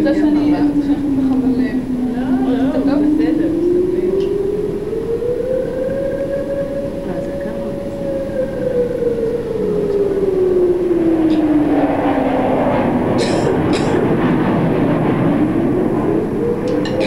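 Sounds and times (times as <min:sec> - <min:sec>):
air-raid siren wailing: 0:00.0 - 0:17.0.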